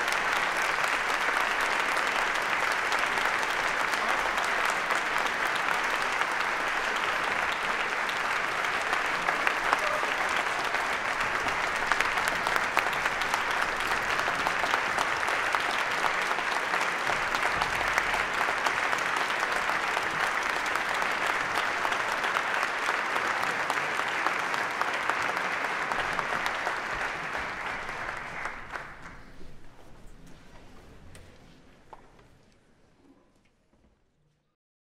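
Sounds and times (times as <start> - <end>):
audience applauding: 0.0 - 29.4.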